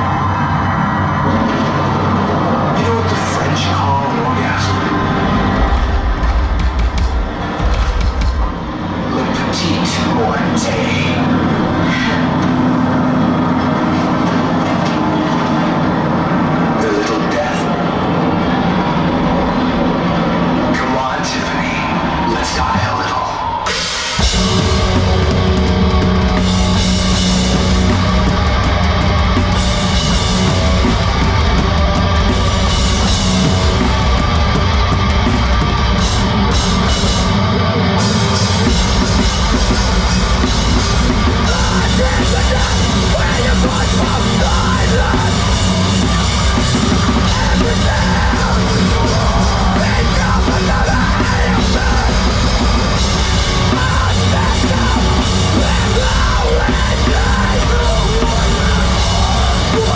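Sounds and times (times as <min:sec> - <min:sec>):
heavy rock band playing live: 0:00.0 - 0:59.9.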